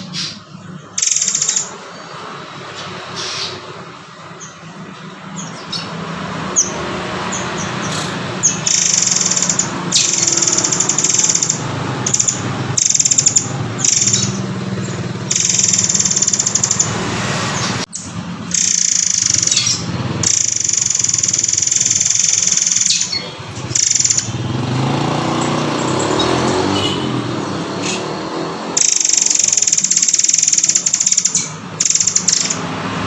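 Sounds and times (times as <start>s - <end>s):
bird singing buzzy trills: 0.0s - 33.0s.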